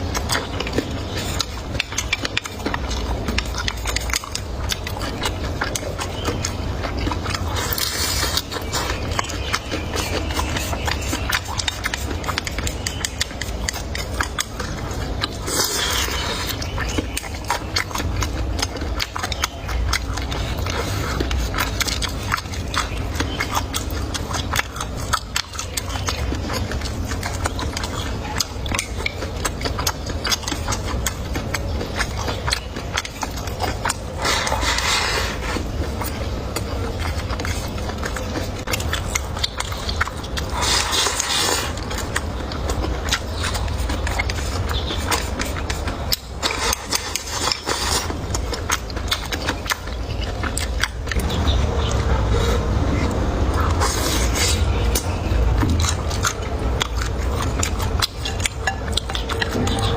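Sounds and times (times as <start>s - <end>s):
chewing with crunching: 0.0s - 59.9s.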